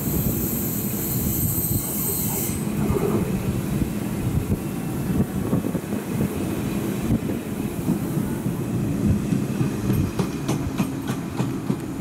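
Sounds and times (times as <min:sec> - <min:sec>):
diesel train rumbling past: 0:00.0 - 0:12.0.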